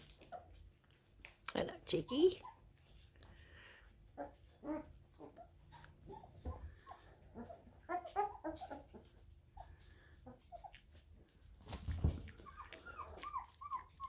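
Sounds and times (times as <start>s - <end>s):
puppies yipping and squeaking: 0.0s - 1.2s, 2.1s - 3.1s, 3.7s - 14.0s.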